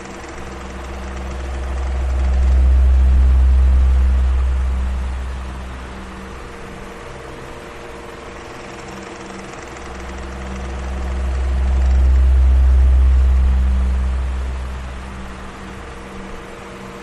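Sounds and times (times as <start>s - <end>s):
electric fan motor hum: 0.0s - 17.0s
fan air hiss: 0.0s - 17.0s.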